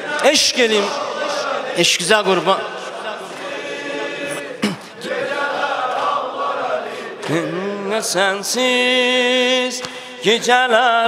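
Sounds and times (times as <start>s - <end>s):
mourners chanting together: 0.0s - 11.0s.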